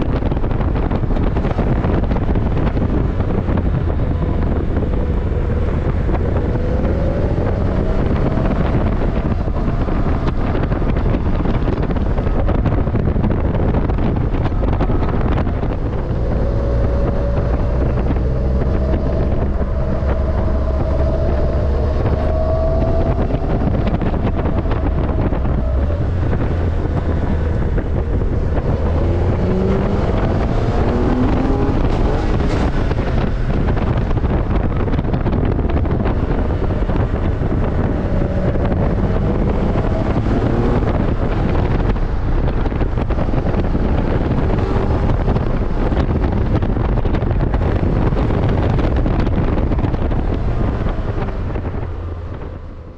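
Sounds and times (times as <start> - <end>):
car engine running: 0.0 - 52.9
wind buffeting microphone: 0.0 - 52.9.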